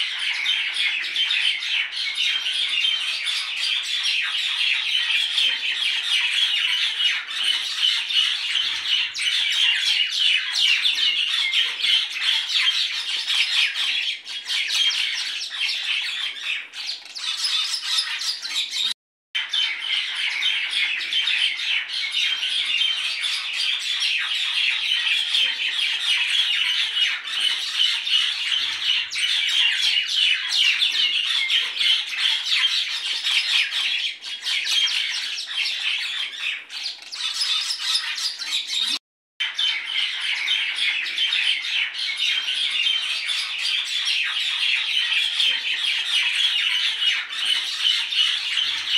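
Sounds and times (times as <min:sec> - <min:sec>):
flock of birds chattering: 0:00.0 - 0:48.9.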